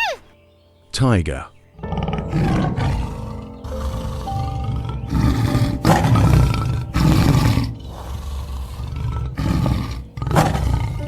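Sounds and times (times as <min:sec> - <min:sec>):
tiger roaring: 0:01.8 - 0:11.0.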